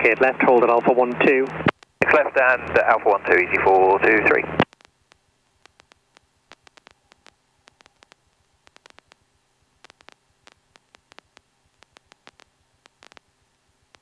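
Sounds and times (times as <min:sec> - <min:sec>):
radio static clicks and crackles: 0:00.0 - 0:14.0.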